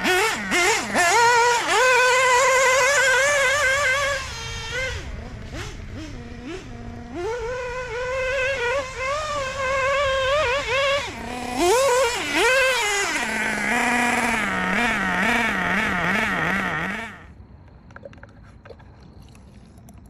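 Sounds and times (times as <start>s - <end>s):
nitro engine revving: 0.0s - 17.3s.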